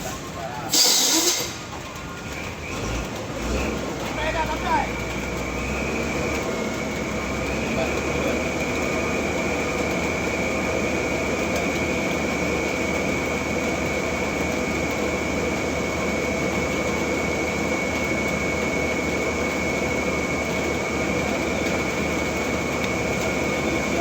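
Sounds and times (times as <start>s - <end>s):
truck diesel engine under load: 0.0s - 24.0s.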